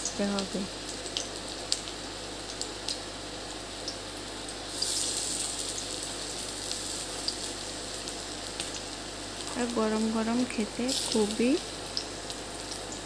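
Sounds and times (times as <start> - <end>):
fritters deep-frying in oil: 0.0 - 13.0.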